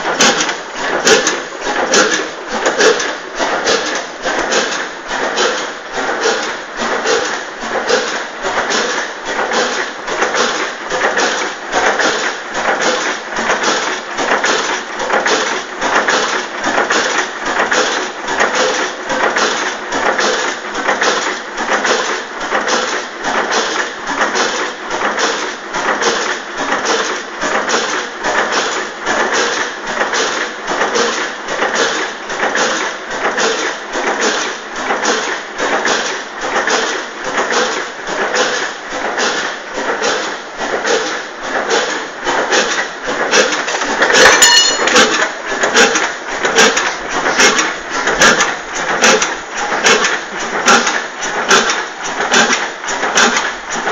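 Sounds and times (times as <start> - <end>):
oil engine running: 0.0 - 53.9.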